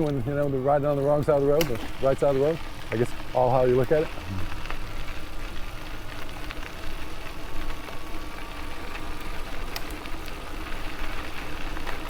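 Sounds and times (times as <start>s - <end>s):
bicycle riding rumble: 0.0s - 12.0s
small ticks: 1.3s - 12.0s.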